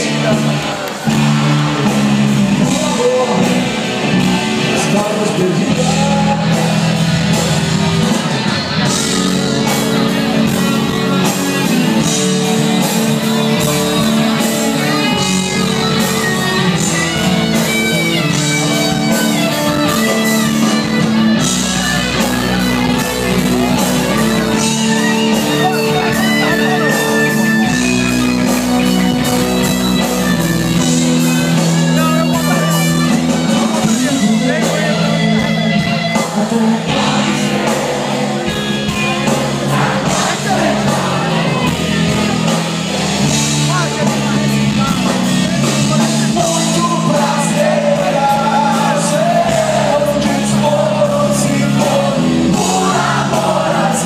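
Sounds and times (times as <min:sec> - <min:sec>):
amplified guitar: 0:00.0 - 0:54.0
bass: 0:00.0 - 0:54.0
drums with steady beat: 0:00.0 - 0:54.0
live rock band playing: 0:00.0 - 0:54.0.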